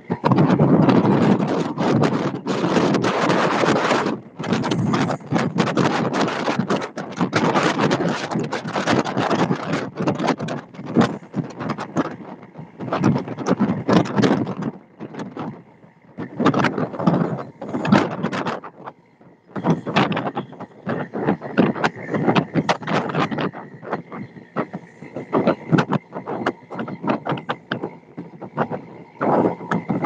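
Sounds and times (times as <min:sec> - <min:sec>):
water rushing along boat hull: 0:00.0 - 0:30.0
wind buffeting microphone: 0:00.0 - 0:30.0.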